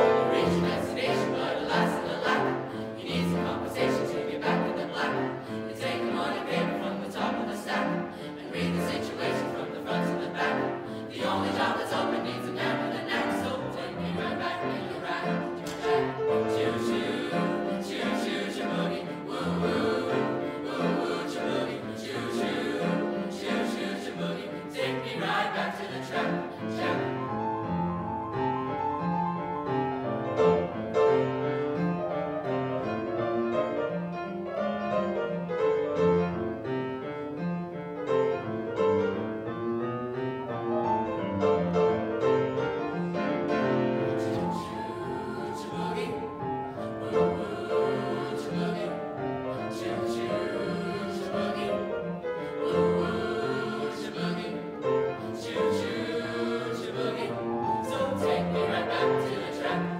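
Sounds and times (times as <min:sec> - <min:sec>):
choir singing: 0:00.0 - 0:37.3, 0:40.4 - 0:59.9
piano accompaniment: 0:00.0 - 0:59.9.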